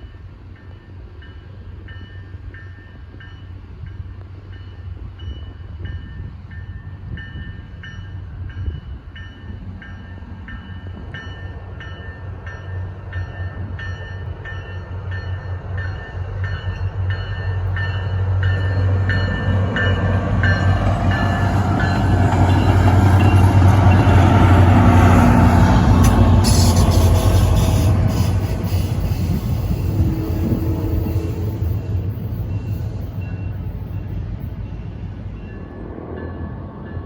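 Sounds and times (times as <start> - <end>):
railroad crossing bell ringing: 0.0 - 37.0
train rumble: 0.0 - 37.0.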